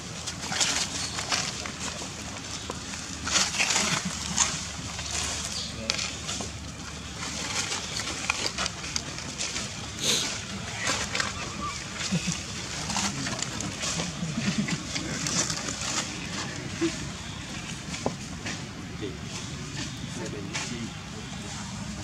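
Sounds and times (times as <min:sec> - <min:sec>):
dry leaves rustling and crackling: 0:00.0 - 0:22.0.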